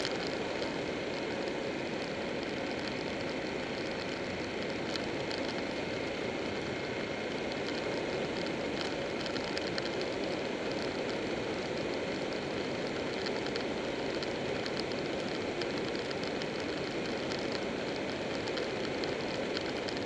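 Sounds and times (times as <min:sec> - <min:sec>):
motorcycle road noise: 0:00.0 - 0:20.0.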